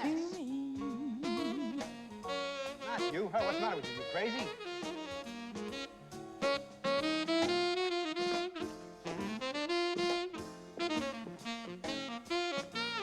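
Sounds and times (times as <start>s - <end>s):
jazz saxophone playing: 0.0s - 13.0s.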